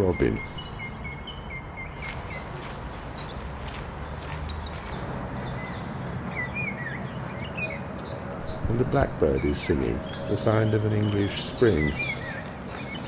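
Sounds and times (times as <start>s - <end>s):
robin singing: 0.0s - 13.0s.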